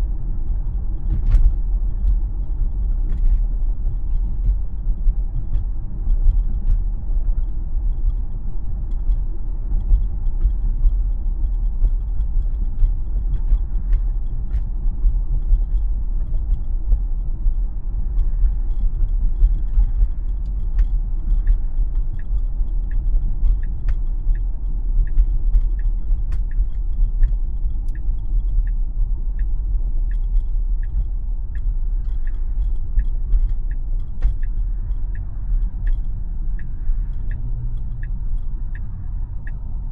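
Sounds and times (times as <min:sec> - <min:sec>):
road and tyre rumble: 0:00.0 - 0:39.9
turn signal ticking: 0:00.0 - 0:39.9.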